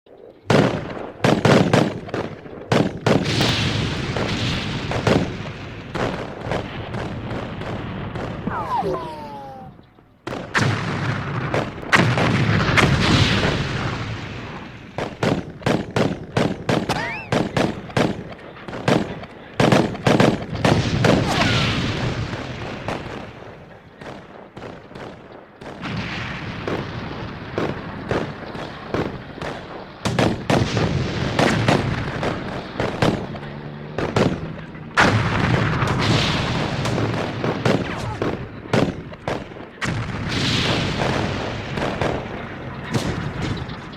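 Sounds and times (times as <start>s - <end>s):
artillery booms and explosions: 0.4s - 43.9s
gunfire: 0.5s - 43.9s.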